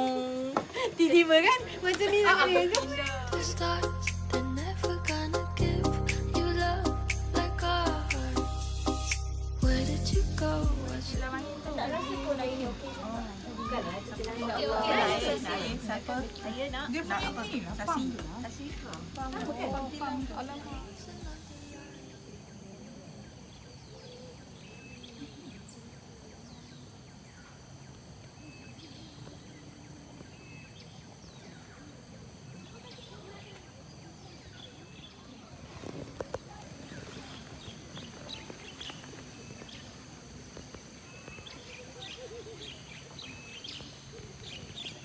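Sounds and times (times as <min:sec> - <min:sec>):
birds chirping: 0:00.0 - 0:03.6, 0:10.4 - 0:45.0
steady high-pitched whine: 0:00.0 - 0:45.0.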